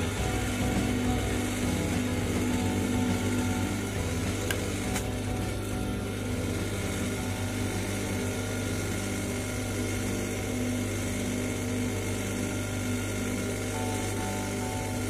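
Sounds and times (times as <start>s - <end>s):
bead being reamed on lathe: 0.0s - 15.0s
lathe motor humming: 0.0s - 15.0s.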